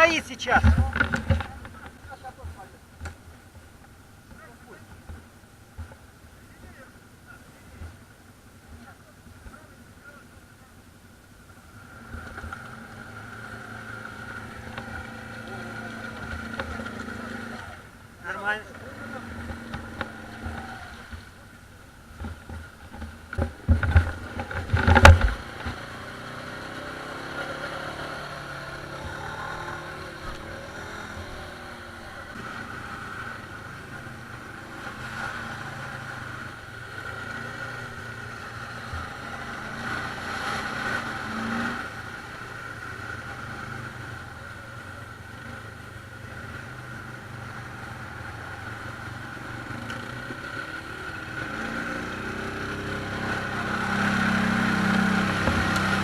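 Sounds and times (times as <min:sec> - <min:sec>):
atv engines running: 0:00.0 - 0:56.0.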